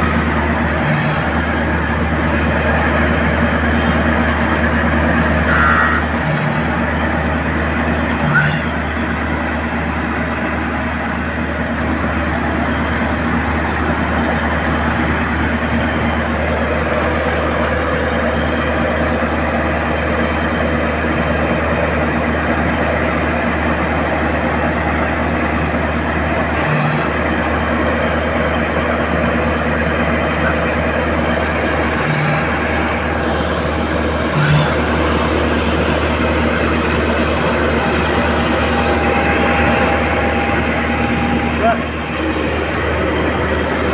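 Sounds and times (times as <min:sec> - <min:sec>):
crane engine droning: 0:00.0 - 0:43.9.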